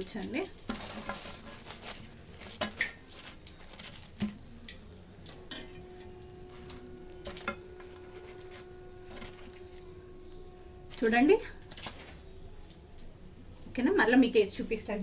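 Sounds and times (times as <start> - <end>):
oil sizzling and crackling: 0.0 - 13.3
steady hum: 0.6 - 15.0.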